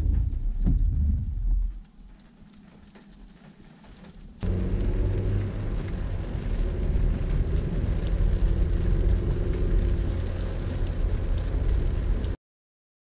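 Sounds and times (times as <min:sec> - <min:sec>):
engine and tyre rumble: 0:00.0 - 0:12.4.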